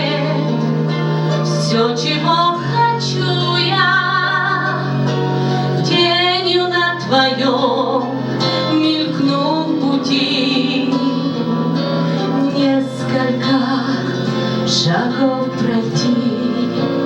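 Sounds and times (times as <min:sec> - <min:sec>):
instrumental accompaniment: 0:00.0 - 0:17.0
woman singing with vibrato: 0:00.0 - 0:17.0.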